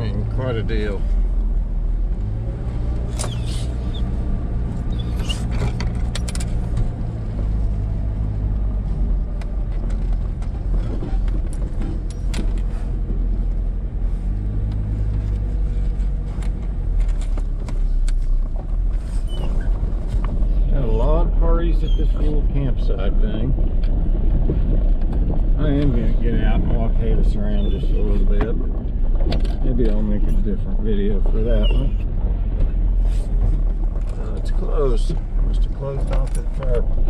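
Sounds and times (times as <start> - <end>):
car engine and tyres hum: 0.0 - 37.0.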